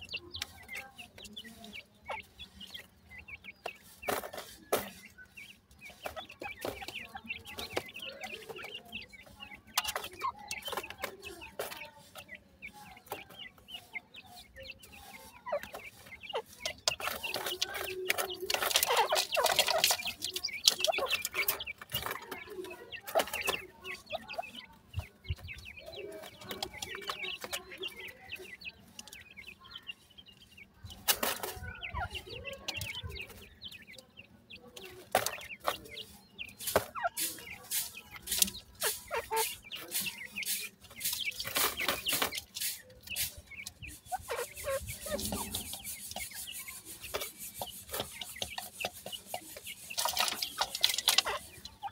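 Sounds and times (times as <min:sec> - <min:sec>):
chicks clucking and chirping: 0:00.0 - 0:51.9.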